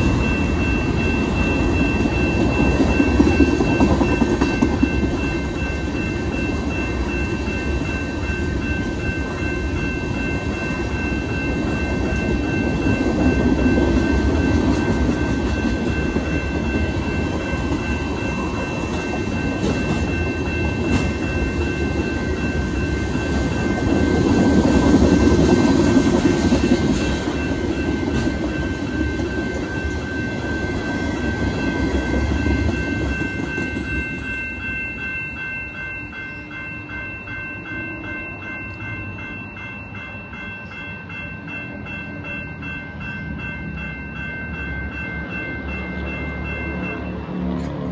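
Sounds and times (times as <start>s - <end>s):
crossing bells ringing: 0.0s - 47.9s
freight train cars rolling: 0.0s - 47.9s.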